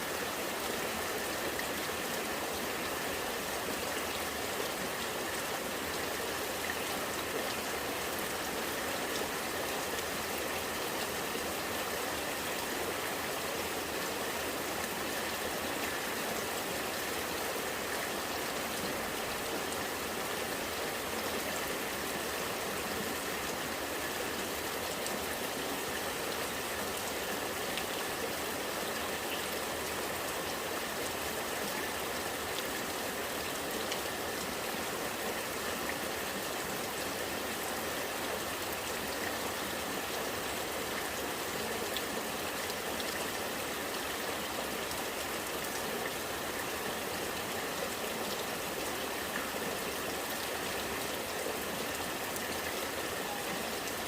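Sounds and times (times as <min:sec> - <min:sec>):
rainwater running and gurgling: 0:00.0 - 0:54.0.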